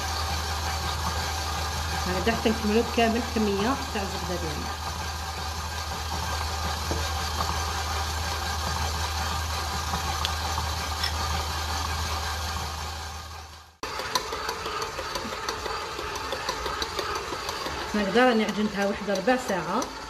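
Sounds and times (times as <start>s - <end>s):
stand mixer motor hum: 0.0s - 20.0s.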